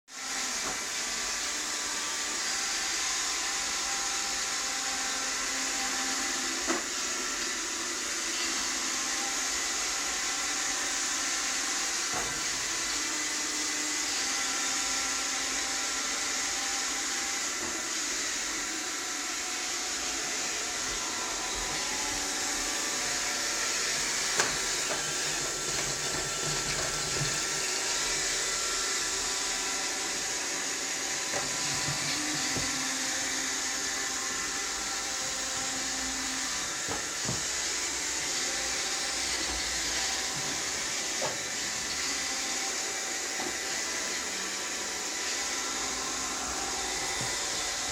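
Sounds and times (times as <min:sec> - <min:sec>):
robot vacuum running: 0:00.1 - 0:47.9.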